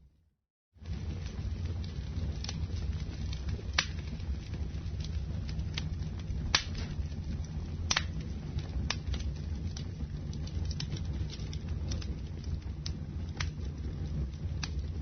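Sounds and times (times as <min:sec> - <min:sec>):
low steady rumble: 0:00.8 - 0:15.0
sharp pops of fire: 0:00.8 - 0:15.0
wood fire crackling: 0:00.8 - 0:15.0.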